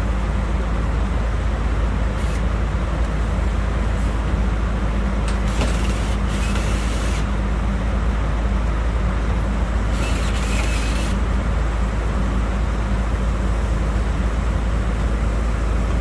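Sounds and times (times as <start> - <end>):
condensing units humming: 0.0 - 16.0.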